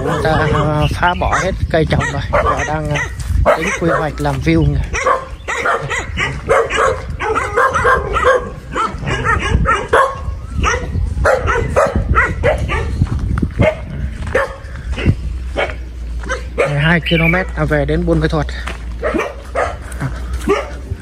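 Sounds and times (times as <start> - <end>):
dog barking and yipping: 0.0 - 17.6, 18.9 - 21.0.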